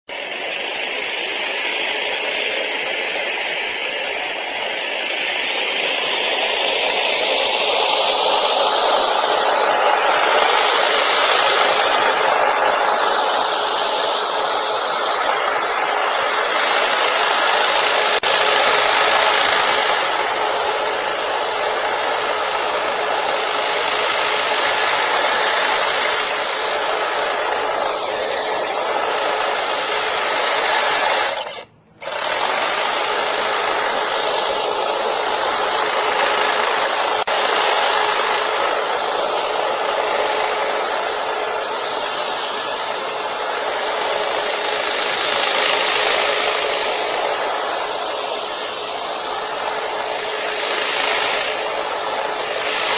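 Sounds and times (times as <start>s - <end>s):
hedge trimmer blades chattering: 3.5s - 52.9s.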